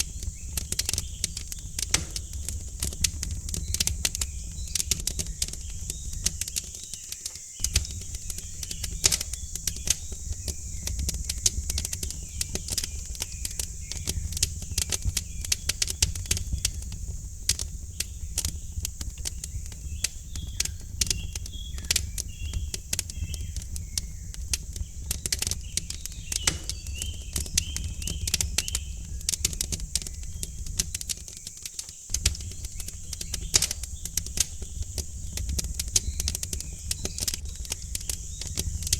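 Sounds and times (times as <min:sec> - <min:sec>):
small birds chirping: 0:00.0 - 0:38.9
wood fire crackling: 0:00.0 - 0:38.9.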